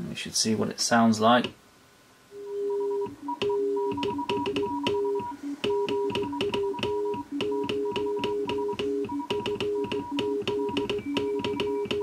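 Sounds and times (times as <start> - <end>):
morse code tone: 2.4 - 12.0.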